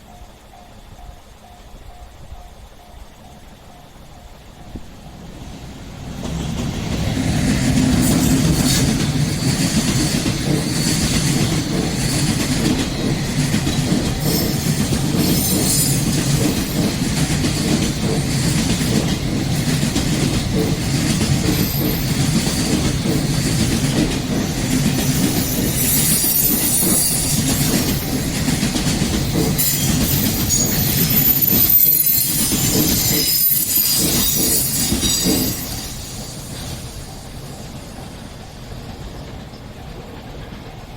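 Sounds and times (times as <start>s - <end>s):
train wheel squeal: 0.0s - 40.9s
train wheels clattering over rail joints: 4.4s - 40.9s.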